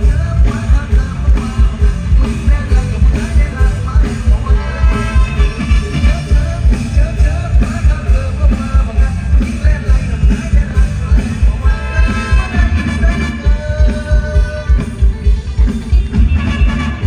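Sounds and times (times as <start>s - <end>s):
live band music: 0.0s - 17.0s
man singing into microphone: 0.0s - 17.0s.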